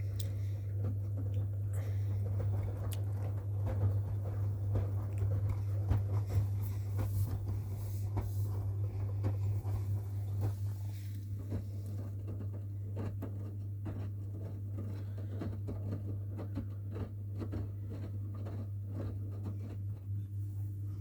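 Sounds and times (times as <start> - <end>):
laundry tumbling in drum: 0.0 - 19.9
washing machine hum: 0.0 - 21.0.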